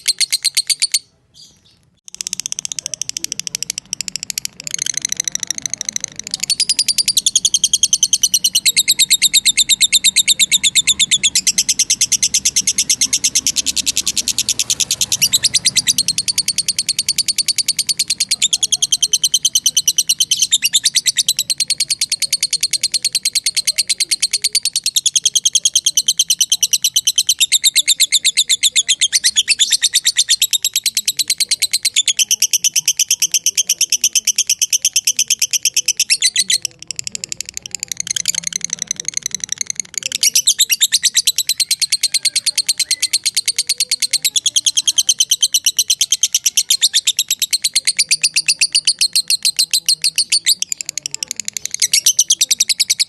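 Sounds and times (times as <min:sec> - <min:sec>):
bird chattering trill: 0:00.0 - 0:53.0.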